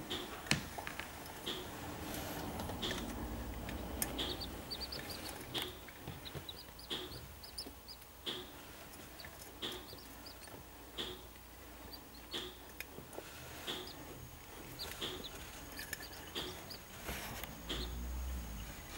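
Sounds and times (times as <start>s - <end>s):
chicks peeping: 1.2s - 18.9s.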